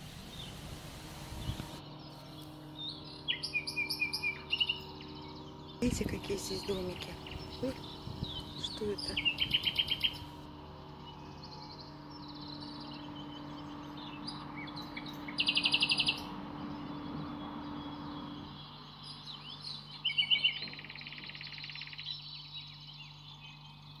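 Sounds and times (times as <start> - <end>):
songbirds singing: 0.0 - 24.0
high pulsed bird trill: 1.8 - 10.4, 11.0 - 24.0.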